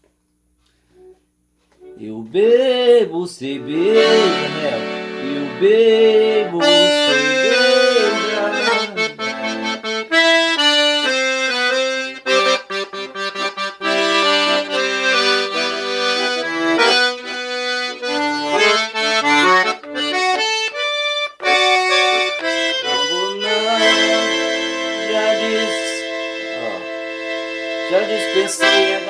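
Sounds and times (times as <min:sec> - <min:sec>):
accordion melody: 0:01.7 - 0:29.0.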